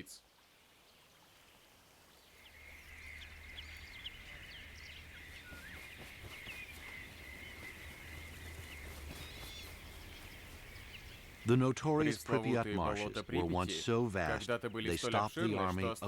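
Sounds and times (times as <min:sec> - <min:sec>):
bird calls and chirps: 0:00.7 - 0:16.0.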